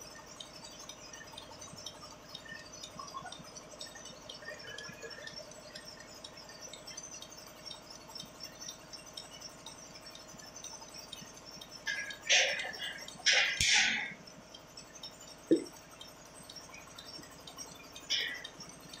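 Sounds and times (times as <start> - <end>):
milking pulsators clicking: 0.0 - 19.0.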